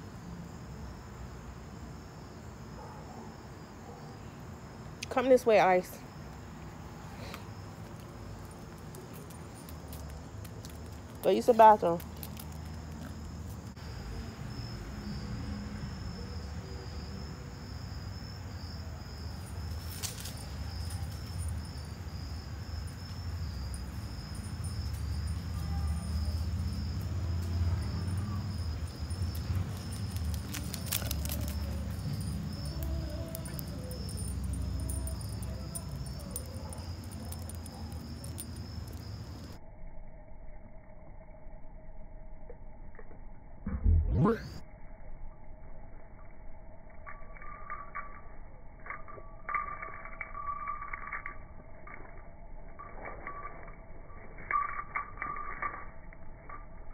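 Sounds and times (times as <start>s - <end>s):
crickets chirring: 0.0s - 43.6s, 44.2s - 56.9s.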